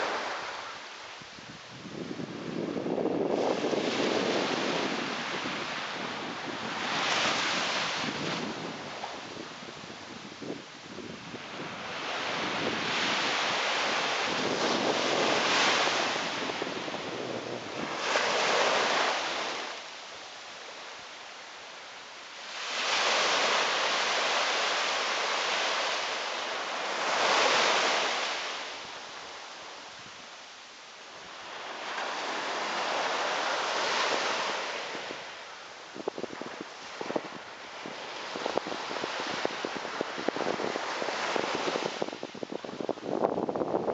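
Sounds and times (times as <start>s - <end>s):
ocean surf washing onto beach: 0.0s - 30.4s, 31.0s - 43.9s.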